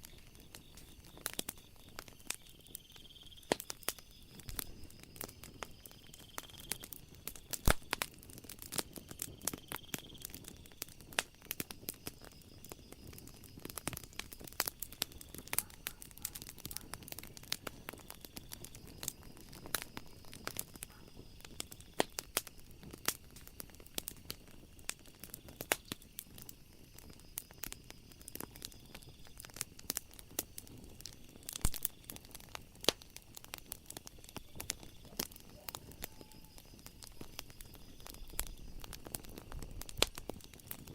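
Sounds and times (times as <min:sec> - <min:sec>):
night insects chirring: 0:00.0 - 0:40.9
wood fire crackling and popping: 0:00.0 - 0:40.9.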